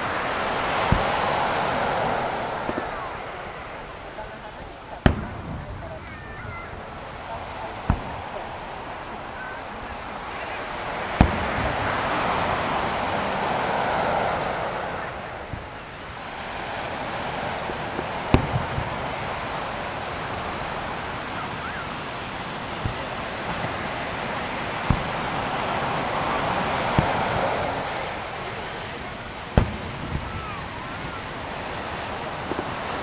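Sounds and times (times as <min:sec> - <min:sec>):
firework shells bursting: 0:00.0 - 0:33.0
surf breaking on beach: 0:00.0 - 0:33.0.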